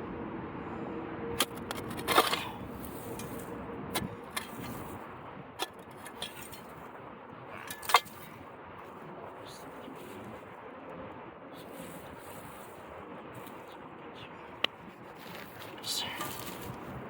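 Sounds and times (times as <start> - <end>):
steady background rumble: 0.0 - 17.0.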